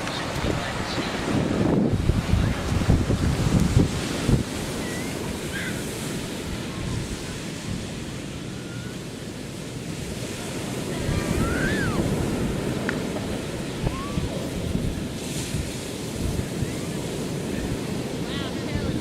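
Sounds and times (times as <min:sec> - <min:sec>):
ocean surf washing on beach: 0:00.0 - 0:19.0
wind buffeting microphone: 0:00.0 - 0:19.0.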